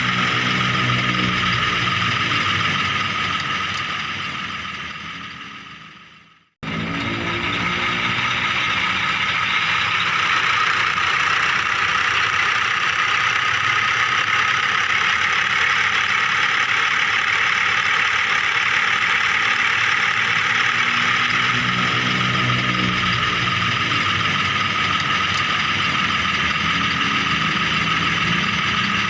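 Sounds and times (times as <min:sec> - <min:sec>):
toy vehicle motors whirring: 0:00.0 - 0:05.2, 0:06.7 - 0:29.0
low hum: 0:00.0 - 0:29.0.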